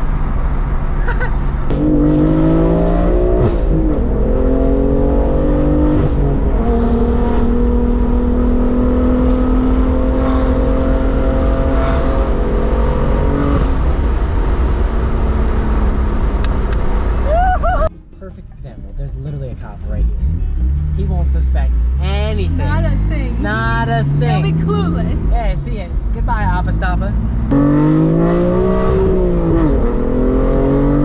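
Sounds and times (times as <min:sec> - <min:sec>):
car engine revving under acceleration: 0:01.2 - 0:17.4, 0:20.0 - 0:31.0.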